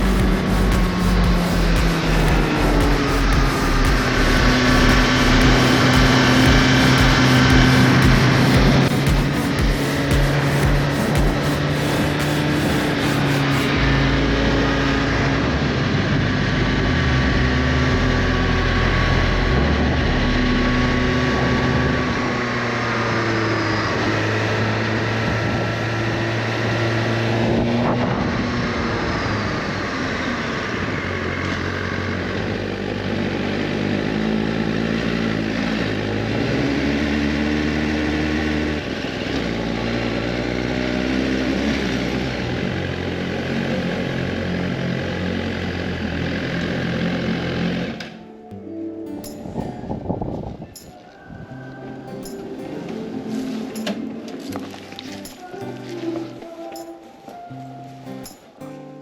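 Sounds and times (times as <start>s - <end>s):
motorcycle engine running: 0.0s - 27.6s, 28.3s - 48.0s.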